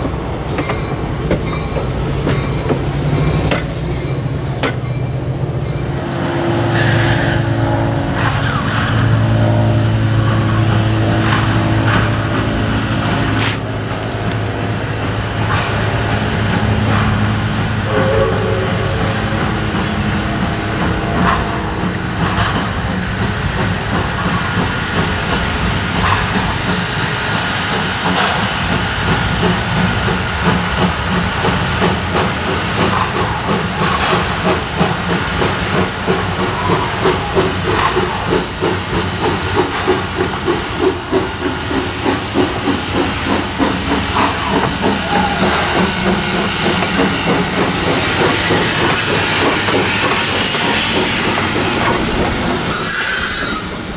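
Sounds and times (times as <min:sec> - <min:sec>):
steam locomotive exhaust chuffing: 0:00.0 - 0:53.9
steam hissing from locomotive: 0:06.0 - 0:53.9.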